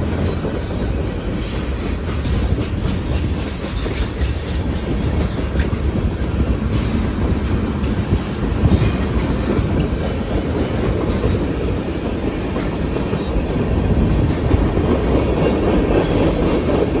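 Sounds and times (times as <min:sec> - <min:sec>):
freight train cars rolling: 0:00.0 - 0:17.0
train wheel squeal: 0:00.0 - 0:17.0.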